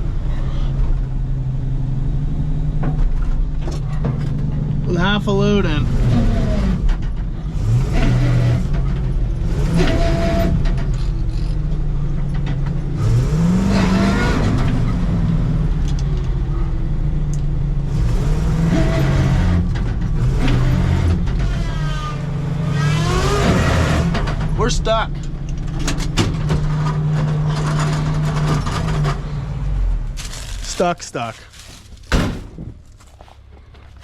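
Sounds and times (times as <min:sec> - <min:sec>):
diesel truck engine revving: 0:00.0 - 0:32.8.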